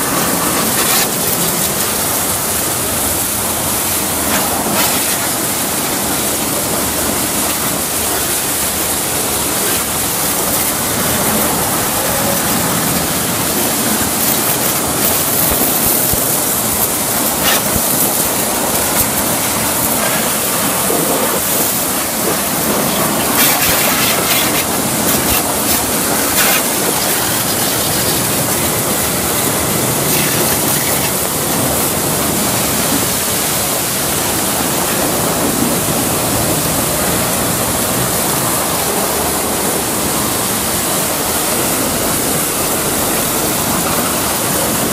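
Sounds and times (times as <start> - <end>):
pressure washer spraying: 0.0 - 37.5
water jet spattering on surfaces: 0.0 - 38.8.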